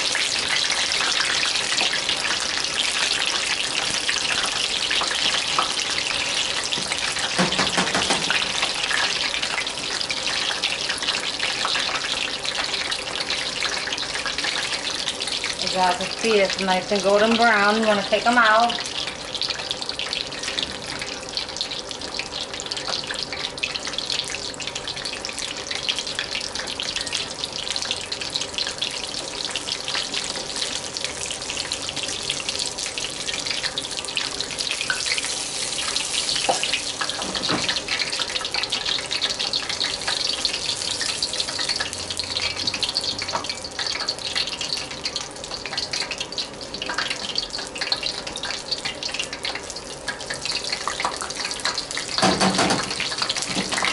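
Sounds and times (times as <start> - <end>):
food deep-frying in hot oil: 0.0 - 53.9.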